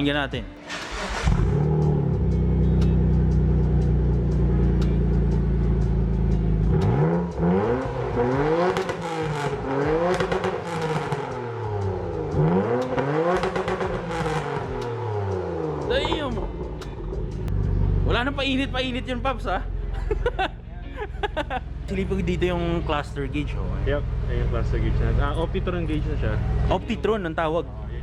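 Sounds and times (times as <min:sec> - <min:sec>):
car engine revving: 0:00.6 - 0:20.5, 0:21.3 - 0:28.0.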